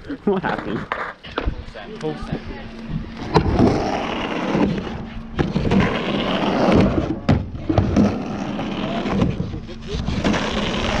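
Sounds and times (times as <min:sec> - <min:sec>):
skateboard wheels rumbling: 0:00.0 - 0:01.8, 0:02.4 - 0:11.0.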